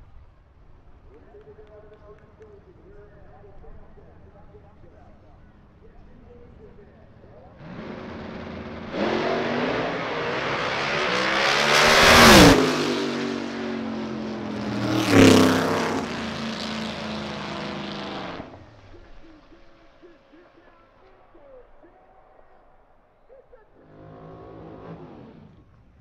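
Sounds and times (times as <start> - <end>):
drag cars accelerating: 1.7 - 21.8, 23.3 - 26.0.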